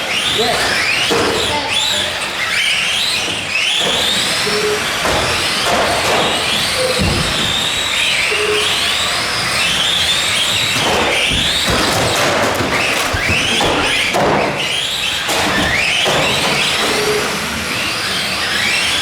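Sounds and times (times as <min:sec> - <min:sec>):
electric rc trucks whining: 0:00.0 - 0:19.0.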